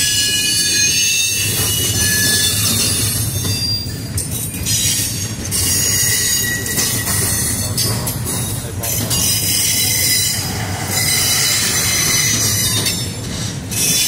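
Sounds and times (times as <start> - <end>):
high-pitched wheel squeal: 0.0 - 4.1, 4.7 - 7.8, 9.0 - 14.0
freight train rolling past: 0.0 - 14.0.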